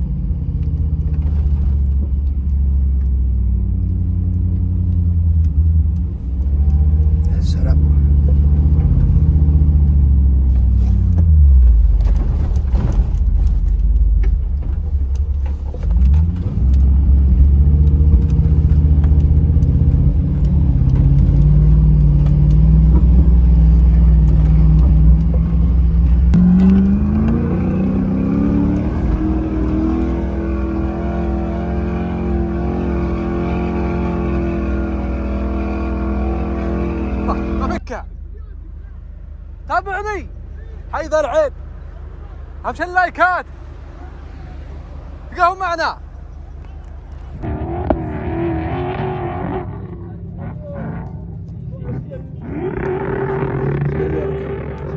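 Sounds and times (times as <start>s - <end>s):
vehicle engine running hard: 0.0s - 54.9s.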